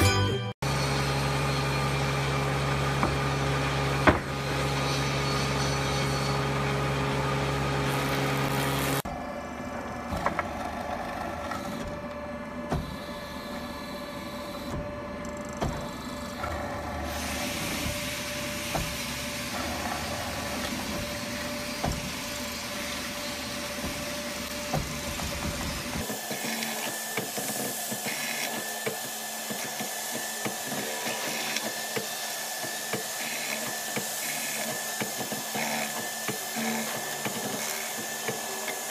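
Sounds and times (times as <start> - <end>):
woodworking machinery hum: 0.6 - 38.9.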